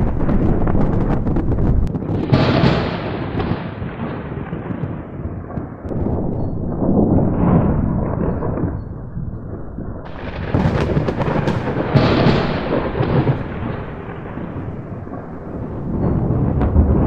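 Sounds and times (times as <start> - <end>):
thunder rumbling and cracking: 0.0 - 17.0.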